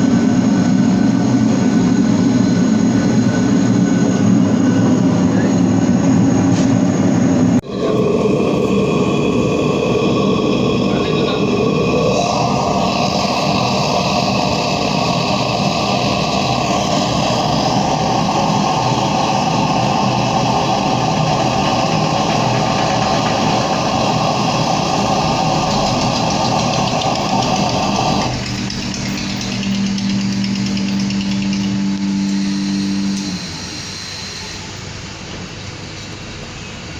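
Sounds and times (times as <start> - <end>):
furnace roaring: 0.0 - 36.9
steady low hum: 0.0 - 36.9.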